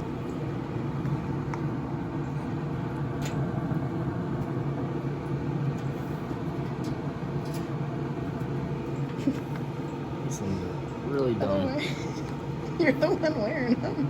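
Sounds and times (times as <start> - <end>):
grill fan humming: 0.0 - 14.0.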